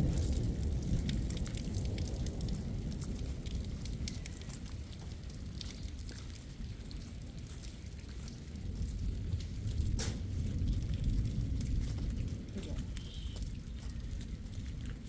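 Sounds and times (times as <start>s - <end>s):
low rumble of wind: 0.0s - 15.0s
rain pattering: 0.0s - 15.0s.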